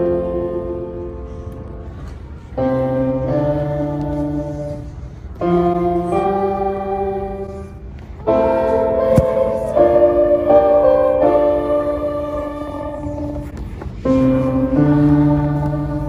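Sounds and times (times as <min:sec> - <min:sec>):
piano accompaniment: 0:00.0 - 0:01.8, 0:02.6 - 0:16.0
choir singing held notes: 0:02.6 - 0:16.0.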